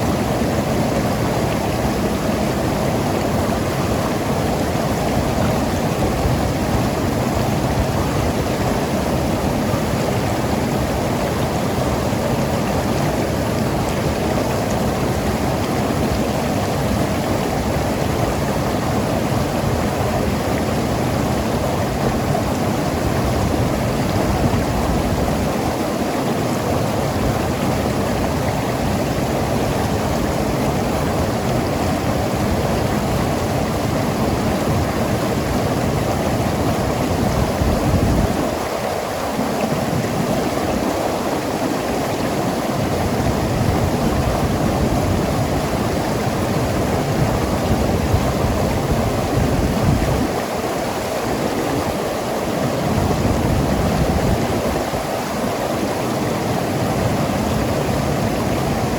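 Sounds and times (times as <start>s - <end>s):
river rushing over rocks: 0.0s - 58.9s.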